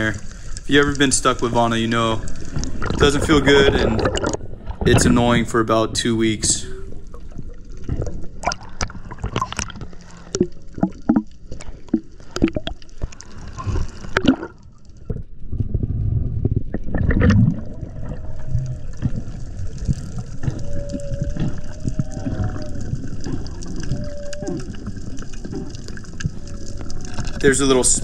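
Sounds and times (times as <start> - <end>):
water gurgling underwater: 0.0 - 28.0.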